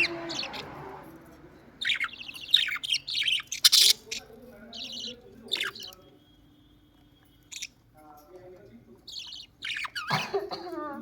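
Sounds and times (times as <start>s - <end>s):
bird chirping: 0.0s - 10.5s.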